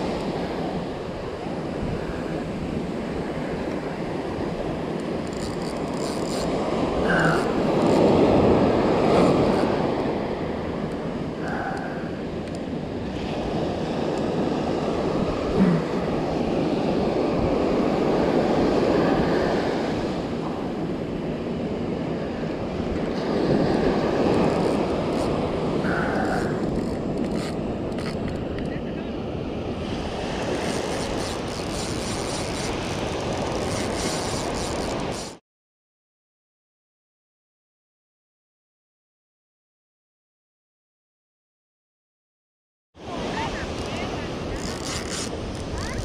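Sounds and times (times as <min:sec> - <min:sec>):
sea waves breaking on shore: 0:00.0 - 0:35.4, 0:43.0 - 0:46.0.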